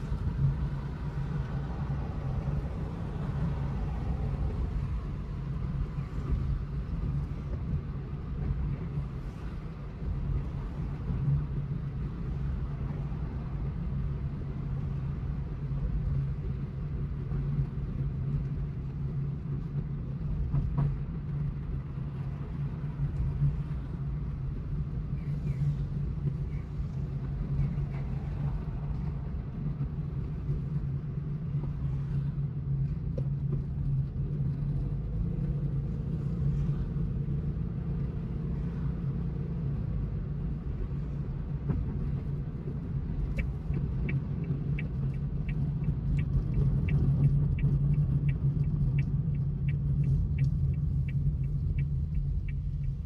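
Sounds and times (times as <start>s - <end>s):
car engine and tyre drone: 0.0s - 53.0s.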